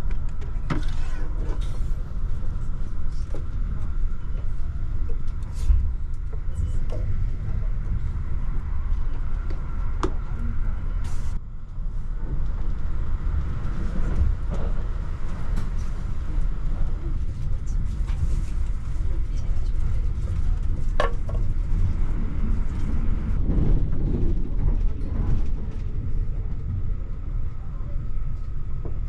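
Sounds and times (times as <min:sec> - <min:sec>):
train cabin low rumble: 0:00.0 - 0:29.0.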